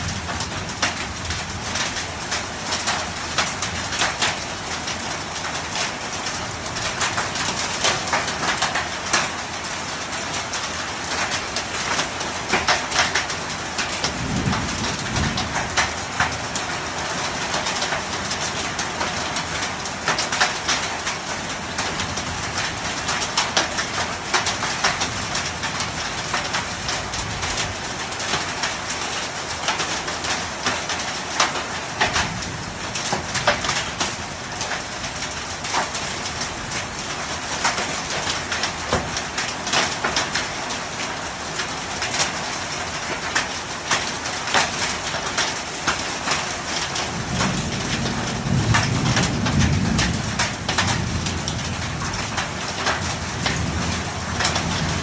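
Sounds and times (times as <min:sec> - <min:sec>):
hail and rain falling: 0:00.0 - 0:55.0.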